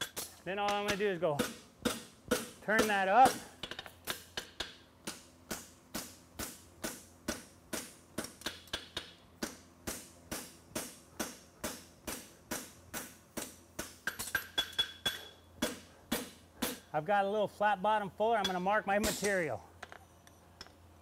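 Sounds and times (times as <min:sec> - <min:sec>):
hammer striking horseshoe on anvil: 0:00.0 - 0:16.9, 0:18.4 - 0:19.4.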